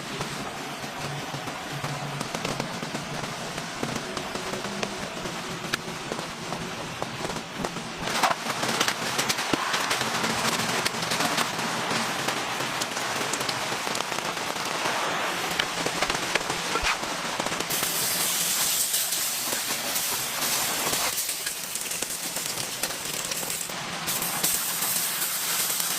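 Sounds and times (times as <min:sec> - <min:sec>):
campfire crackling: 0:00.0 - 0:25.9
rain hissing: 0:00.0 - 0:25.9.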